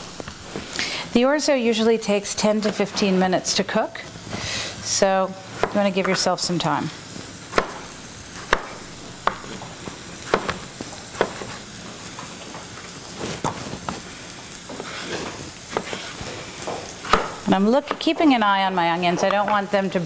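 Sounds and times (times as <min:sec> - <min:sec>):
onion and garlic sizzling in oil: 0:00.0 - 0:20.0.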